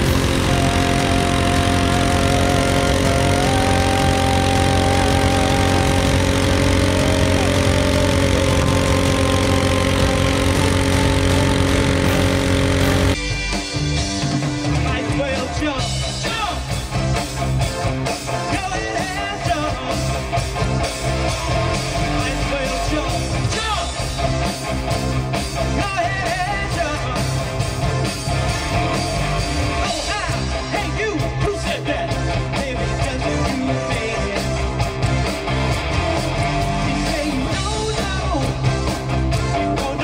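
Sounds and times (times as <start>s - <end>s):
rock music with singing: 0.0s - 40.0s.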